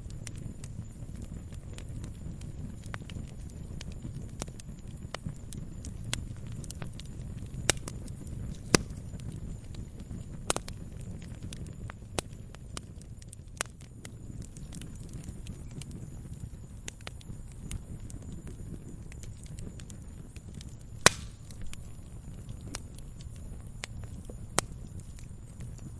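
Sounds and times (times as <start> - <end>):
campfire crackling and popping: 0.0 - 25.9
low fire rumble: 0.0 - 25.9.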